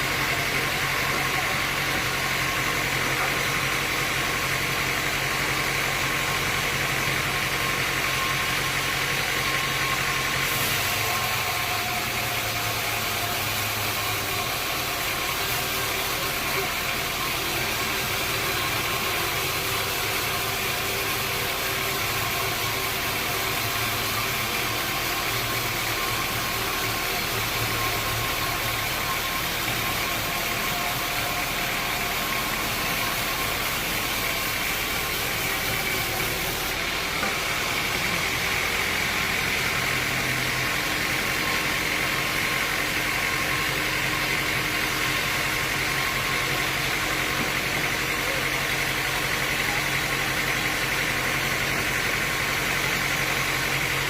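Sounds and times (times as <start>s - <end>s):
sawmill machinery hum: 0.0s - 54.0s.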